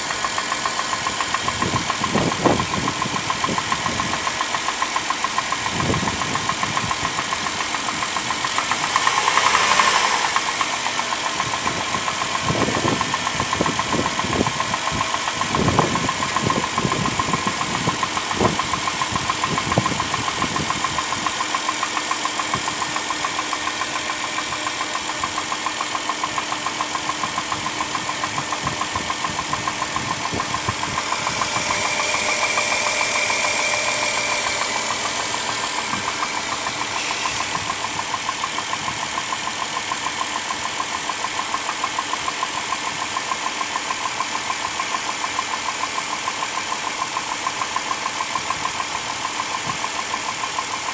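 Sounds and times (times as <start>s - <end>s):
car engine idling: 0.0s - 50.9s
engine knocking: 0.0s - 50.9s.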